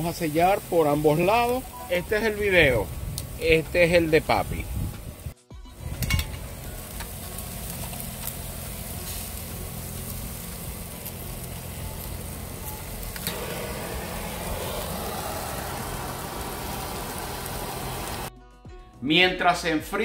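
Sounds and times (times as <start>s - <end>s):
charcoal crackling: 0.0s - 18.3s
steaks sizzling on a grill: 0.0s - 18.3s.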